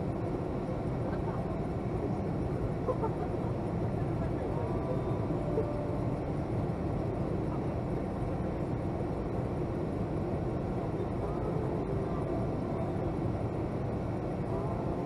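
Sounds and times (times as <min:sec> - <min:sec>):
aircraft cabin rumble and air hiss: 0:00.0 - 0:15.0.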